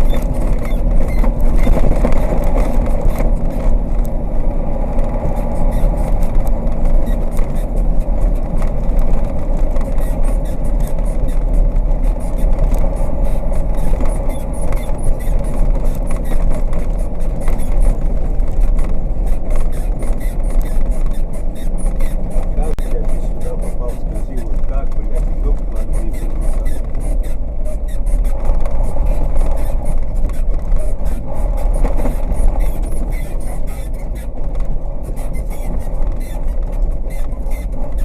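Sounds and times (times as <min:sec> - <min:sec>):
cab knocks and rattles: 0:00.0 - 0:38.0
truck diesel engine running: 0:00.0 - 0:38.0.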